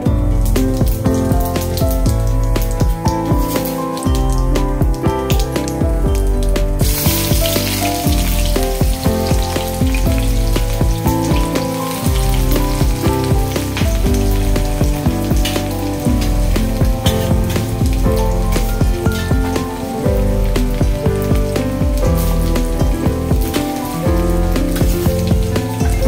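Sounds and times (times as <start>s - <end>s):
background music with beat: 0.0s - 26.0s
hot oil sizzling and crackling: 0.0s - 26.0s.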